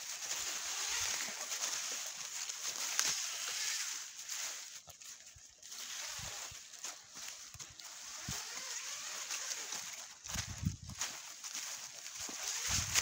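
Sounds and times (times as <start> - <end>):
footsteps crunching dry leaves: 0.0 - 13.0.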